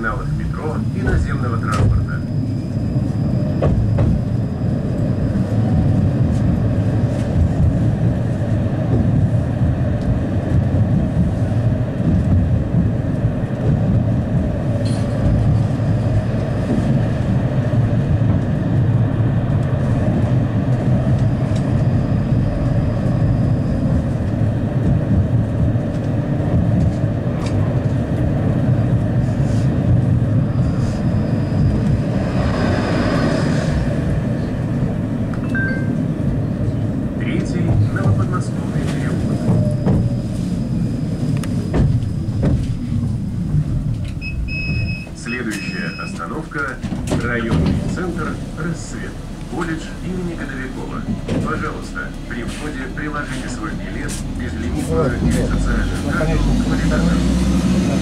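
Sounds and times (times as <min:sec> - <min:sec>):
tram wheels rumbling on rail: 0:00.0 - 0:58.0.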